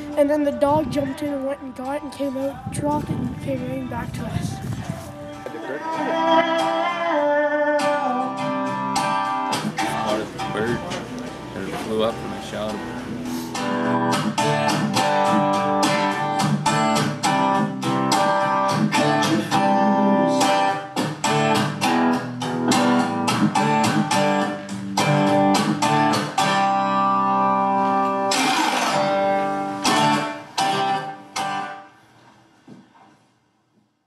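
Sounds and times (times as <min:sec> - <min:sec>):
strummed guitar music: 0:00.0 - 0:32.2.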